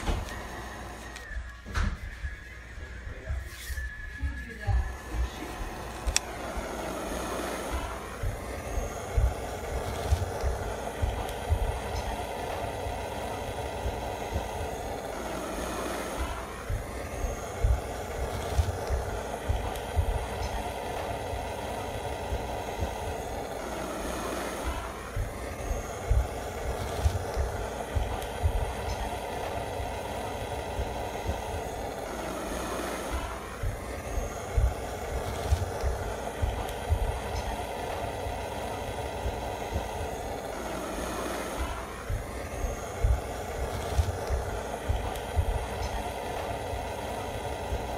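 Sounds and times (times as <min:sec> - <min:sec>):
torch lighter hissing: 0:00.0 - 0:47.9.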